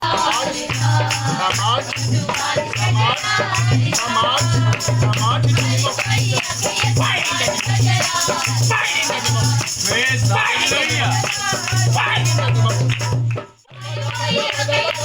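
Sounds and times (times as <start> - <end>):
music with shaker rattle: 0.0 - 15.0.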